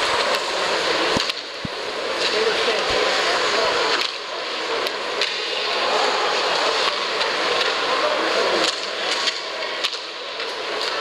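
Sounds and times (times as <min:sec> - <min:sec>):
arena crowd noise: 0:00.0 - 0:11.0
hockey sticks and puck clacking: 0:00.0 - 0:11.0
skates scraping ice: 0:00.0 - 0:11.0.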